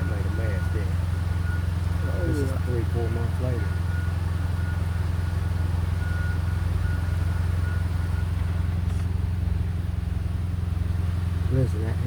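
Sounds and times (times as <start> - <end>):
motor vehicle engine rumble: 0.0 - 12.0.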